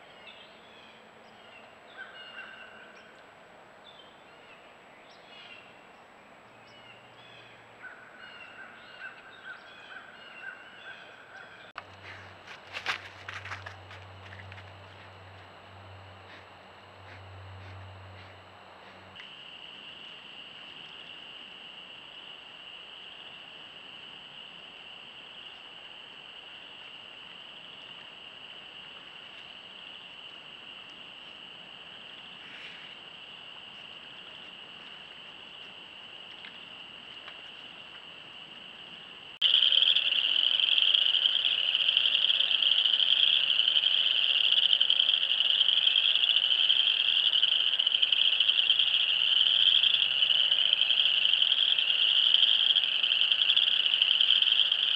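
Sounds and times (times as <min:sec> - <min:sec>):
frogs chorus calling: 0:01.6 - 0:03.1, 0:06.8 - 0:54.9.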